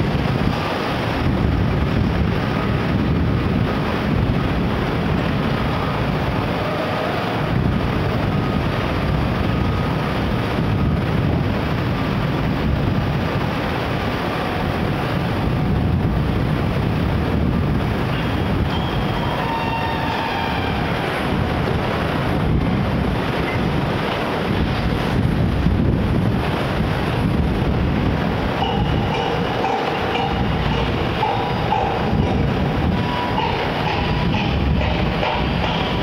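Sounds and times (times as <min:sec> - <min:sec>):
wind noise on microphone: 0:00.0 - 0:36.0.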